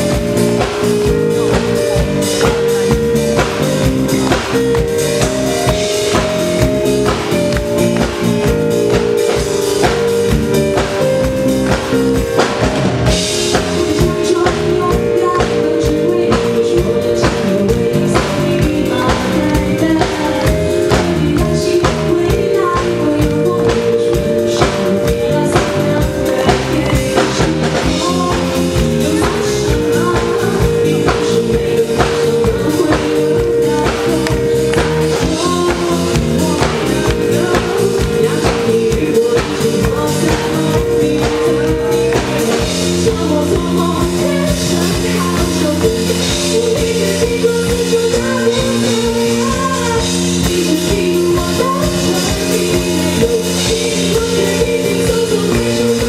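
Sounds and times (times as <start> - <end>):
drum kit beating: 0.0 - 56.0
keyboard and bass chords: 0.0 - 56.0
person singing: 0.0 - 56.0.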